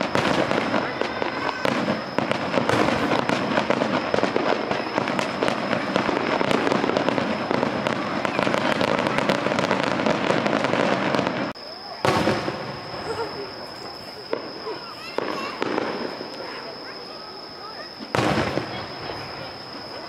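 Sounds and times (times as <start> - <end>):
fireworks shells bursting: 0.0 - 20.0.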